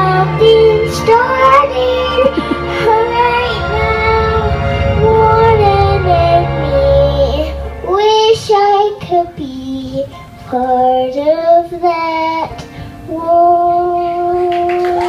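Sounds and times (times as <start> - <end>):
child singing: 0.0 - 15.0.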